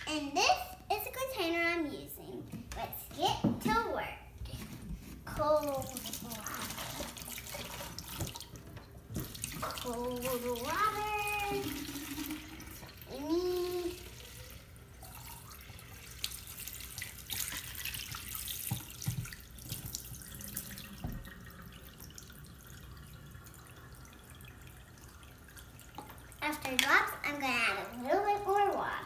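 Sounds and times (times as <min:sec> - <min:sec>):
faucet water filling plastic bottle: 0:04.8 - 0:29.0.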